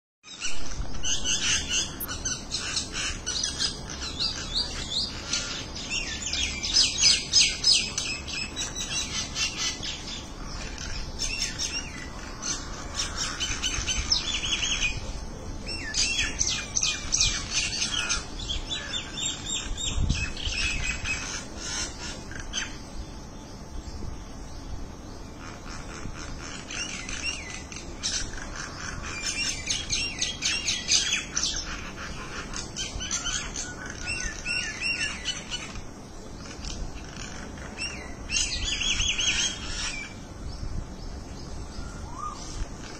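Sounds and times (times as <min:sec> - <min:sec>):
mynas chattering and squawking: 0:00.6 - 0:22.8, 0:25.3 - 0:40.2.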